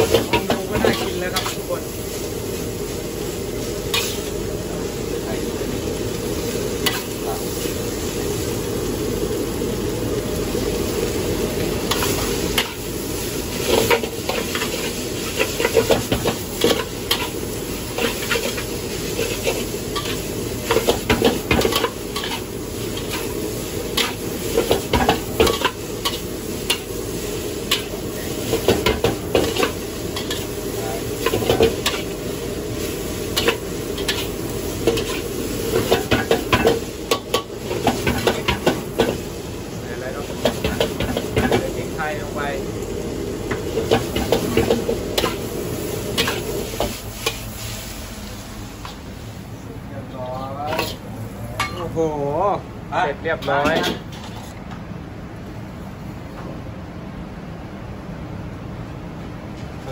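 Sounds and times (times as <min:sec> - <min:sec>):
food sizzling: 0:00.0 - 0:54.6.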